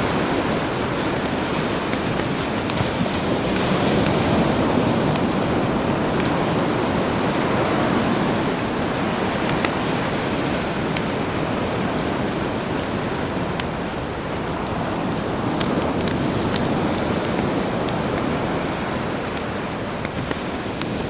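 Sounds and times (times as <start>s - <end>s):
campfire crackling: 0.0s - 21.0s
sea surf: 0.0s - 21.0s.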